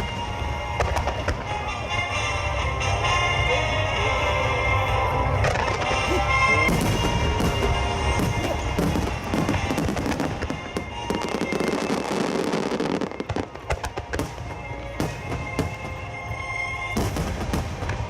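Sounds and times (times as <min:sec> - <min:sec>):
fireworks bursting and crackling: 0:00.0 - 0:03.0, 0:05.1 - 0:18.0
music playing: 0:00.0 - 0:18.0.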